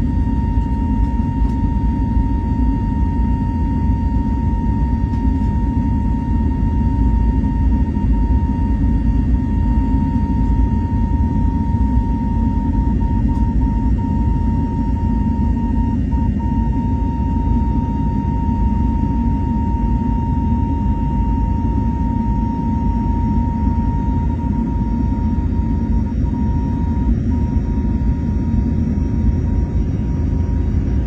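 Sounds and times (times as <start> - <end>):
airliner cabin low rumble: 0.0 - 31.0.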